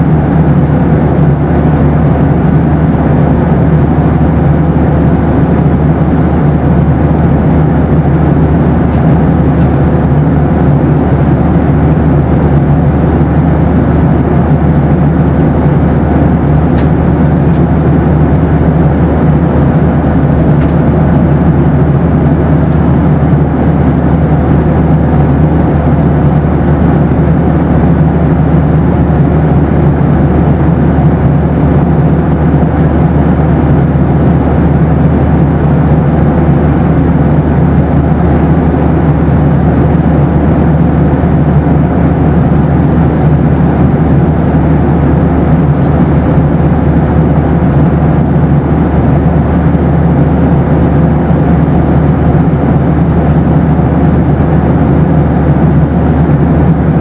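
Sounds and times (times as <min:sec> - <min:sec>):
airplane cabin engine rumble: 0:00.0 - 0:57.0
faint steady hum: 0:00.0 - 0:57.0.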